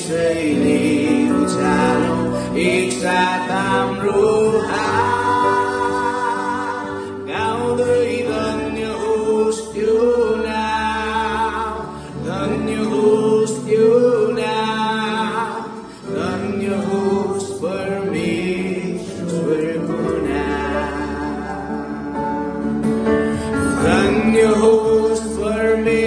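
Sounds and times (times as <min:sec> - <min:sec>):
man singing into a microphone: 0:00.0 - 0:22.8, 0:23.4 - 0:26.0
voices singing along: 0:00.0 - 0:22.8.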